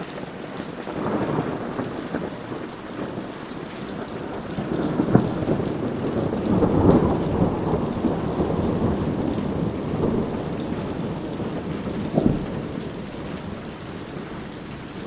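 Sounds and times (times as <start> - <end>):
heavy rain falling: 0.0 - 15.0
thunder rumbling: 0.9 - 15.0.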